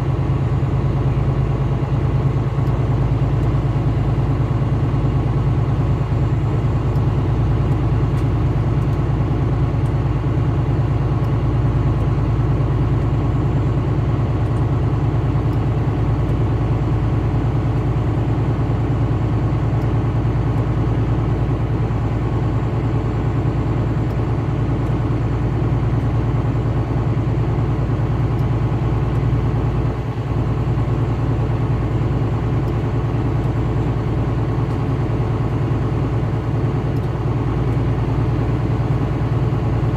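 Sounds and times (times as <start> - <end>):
vehicle engine drone: 0.0 - 39.9.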